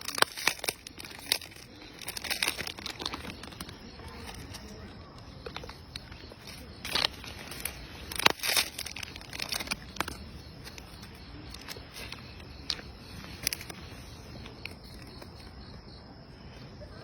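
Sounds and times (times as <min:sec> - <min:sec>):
crinkling and crackling: 0:00.0 - 0:16.6.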